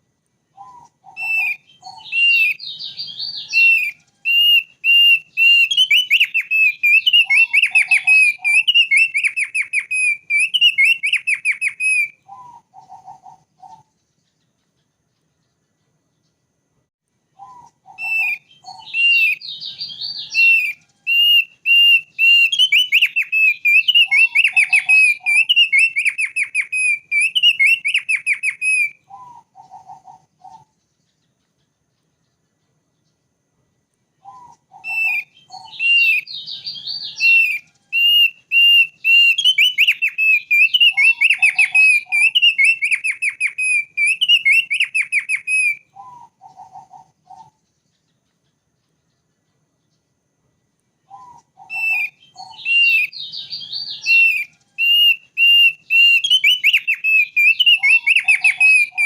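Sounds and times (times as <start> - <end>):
bird warbling song: 0.0 - 50.4, 51.0 - 59.0.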